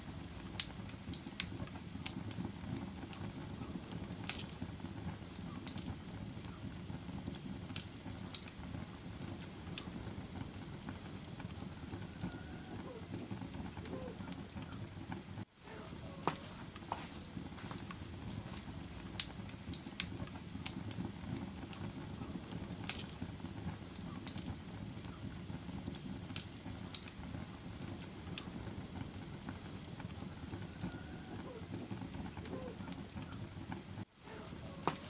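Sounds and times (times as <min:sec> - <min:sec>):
fire burning with crackles: 0:00.0 - 0:35.0.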